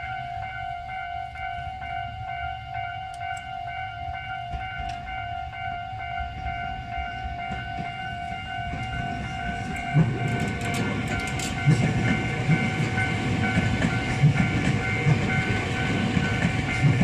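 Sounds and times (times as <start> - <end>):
level crossing alarm ringing: 0.0 - 17.0.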